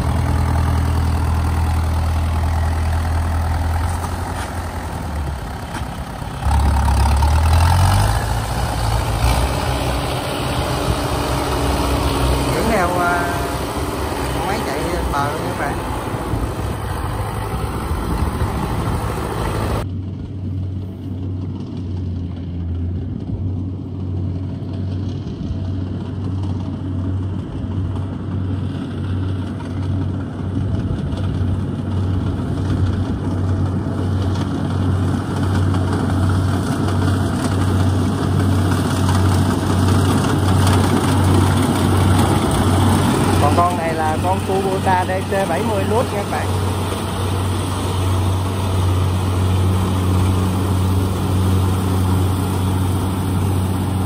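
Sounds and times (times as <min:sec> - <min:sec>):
combine harvester engine humming: 0:00.0 - 0:54.0.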